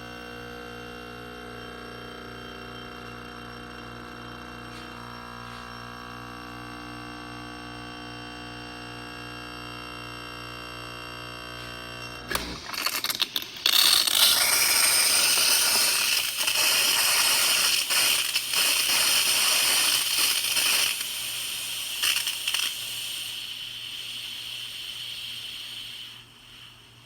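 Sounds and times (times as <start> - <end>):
espresso machine hissing: 0.0 - 27.0.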